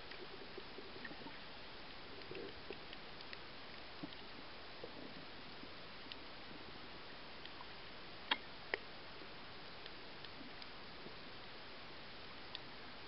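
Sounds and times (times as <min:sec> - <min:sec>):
faint underwater clicks and crackles: 0:00.0 - 0:13.0.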